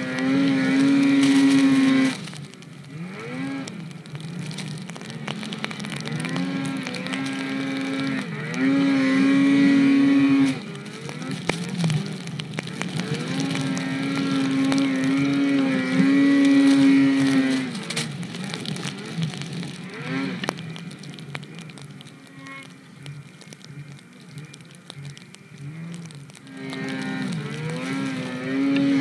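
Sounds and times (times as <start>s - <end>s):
snowmobile engine revving: 0.0s - 20.9s, 25.4s - 29.0s.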